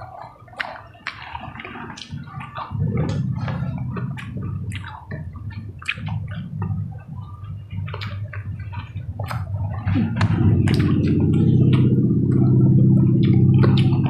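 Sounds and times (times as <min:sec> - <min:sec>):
wet chewing and lip smacking: 0:00.0 - 0:14.0.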